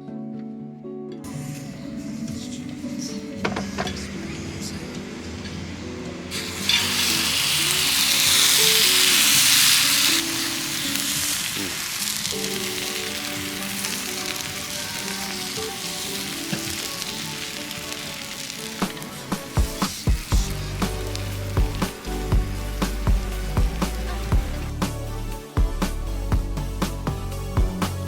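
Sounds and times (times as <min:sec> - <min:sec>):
food sizzling in hot pan: 0:01.3 - 0:25.2.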